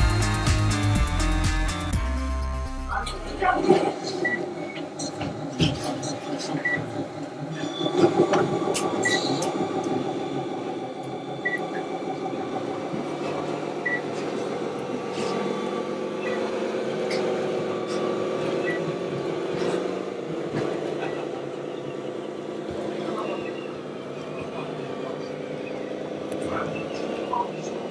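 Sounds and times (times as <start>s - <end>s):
model truck motor and gear whine: 0.0s - 27.9s.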